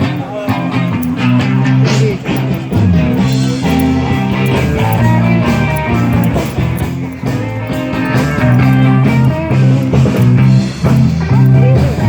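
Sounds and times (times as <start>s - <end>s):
rock band guitar instrumental: 0.0s - 12.0s
steady bass notes: 0.0s - 12.0s.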